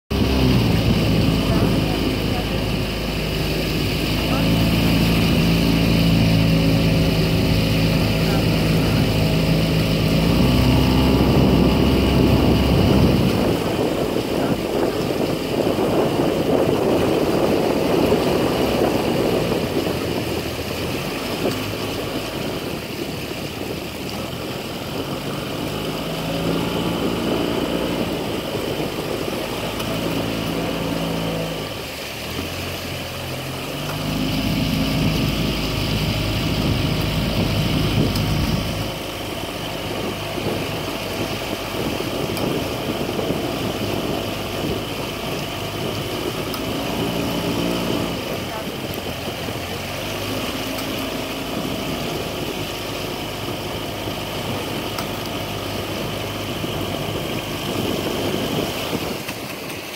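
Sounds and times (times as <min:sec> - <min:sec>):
small outboard motor running: 0:00.1 - 0:59.9.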